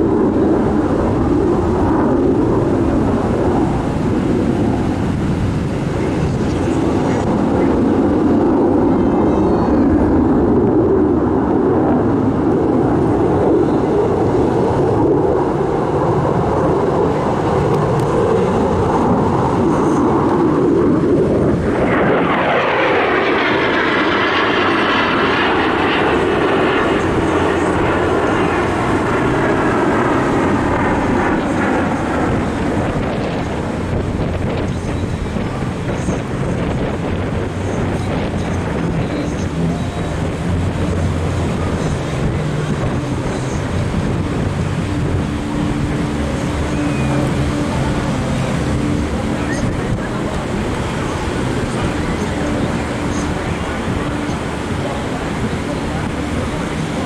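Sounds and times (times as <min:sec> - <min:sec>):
airplane flying past low: 0:00.0 - 0:57.0.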